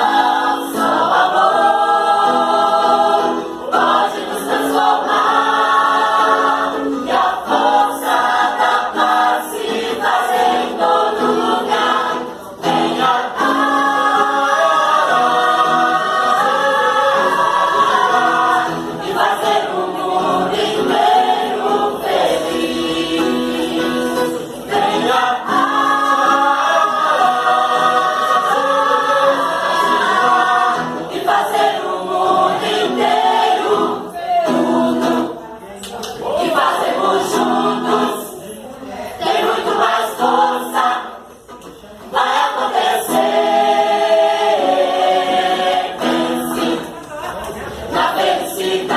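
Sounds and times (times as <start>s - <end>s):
choir singing: 0.0s - 35.4s, 36.2s - 48.9s.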